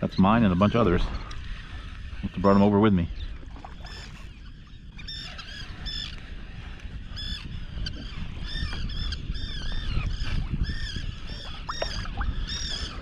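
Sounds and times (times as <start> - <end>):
seabirds calling: 0.0 - 13.0.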